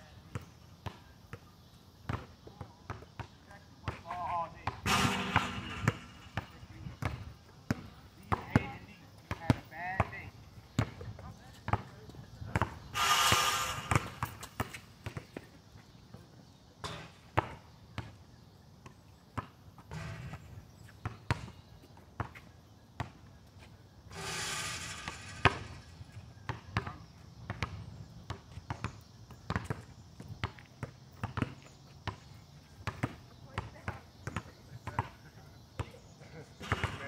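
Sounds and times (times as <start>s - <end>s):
basketball bouncing on asphalt: 0.3s - 4.0s, 4.6s - 15.6s, 16.8s - 18.2s, 18.8s - 20.4s, 21.0s - 23.3s, 24.1s - 35.2s.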